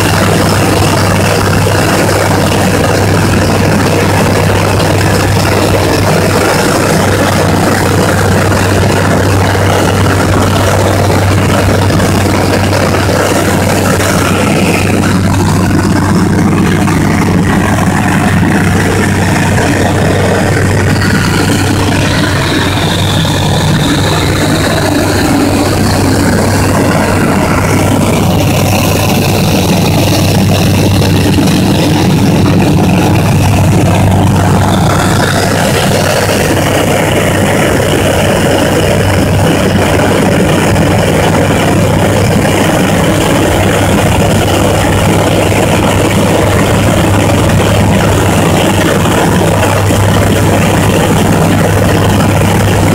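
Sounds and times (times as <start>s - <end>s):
airflow noise: 0.0s - 52.9s
light aircraft engine droning: 0.0s - 52.9s.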